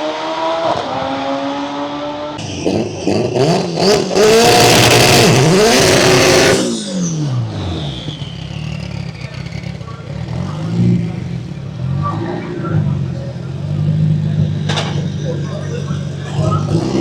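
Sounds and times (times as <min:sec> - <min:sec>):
racing car engine revving: 0:00.0 - 0:17.0.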